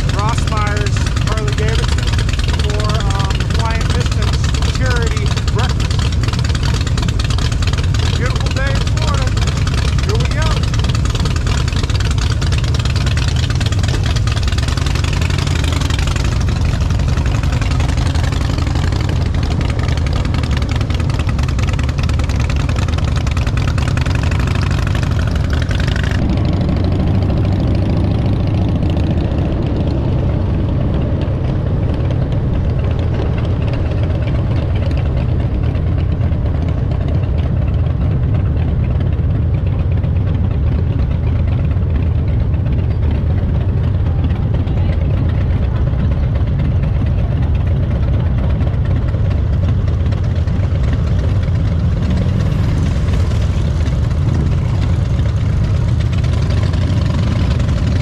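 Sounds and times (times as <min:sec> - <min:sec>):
motorcycle engine idling: 0:00.0 - 0:58.0
motorcycle riding on road: 0:00.0 - 0:58.0.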